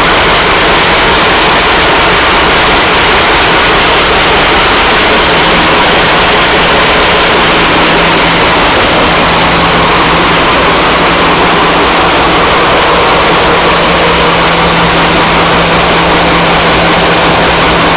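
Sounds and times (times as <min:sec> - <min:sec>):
diesel engines idling: 0:00.0 - 0:17.9
low hum: 0:00.0 - 0:17.9.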